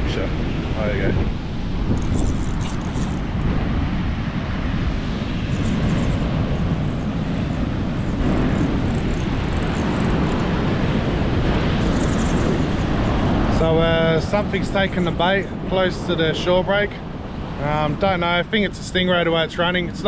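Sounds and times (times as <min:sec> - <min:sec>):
breaking surf: 0:00.0 - 0:20.0
wind rumbling on microphone: 0:00.0 - 0:20.0.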